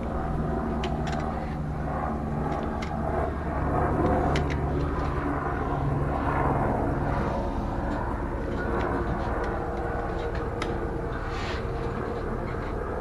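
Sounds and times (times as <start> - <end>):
low rumble of machinery or traffic: 0.0 - 13.0.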